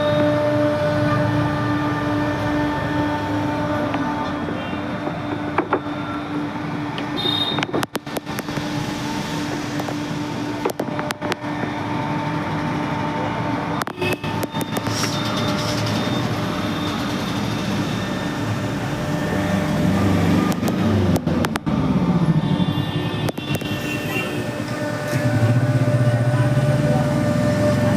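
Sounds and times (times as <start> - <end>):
cnc router cutting: 0.0 - 27.9.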